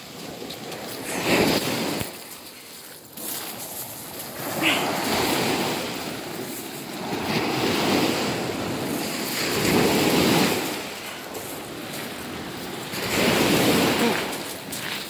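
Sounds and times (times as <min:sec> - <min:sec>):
surf washing onto pebble beach: 0:00.0 - 0:15.0.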